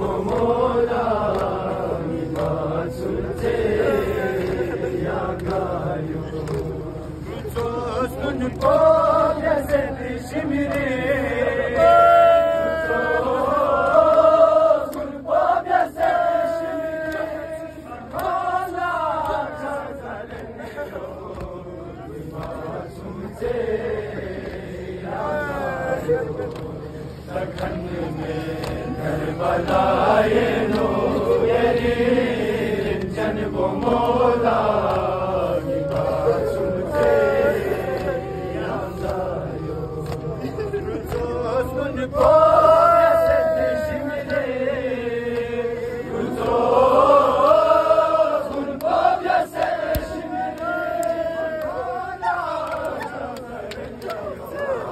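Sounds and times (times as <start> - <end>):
crowd murmur: 0.0 - 54.9
men chanting a mourning lament: 0.0 - 54.9.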